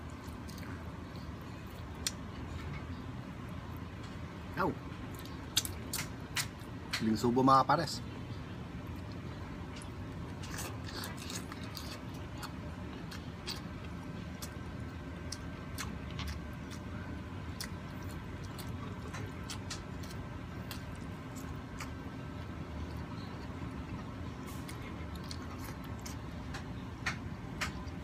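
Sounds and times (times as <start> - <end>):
low background noise: 0.0 - 28.0
person chewing: 0.1 - 2.8, 5.1 - 6.7, 8.8 - 28.0.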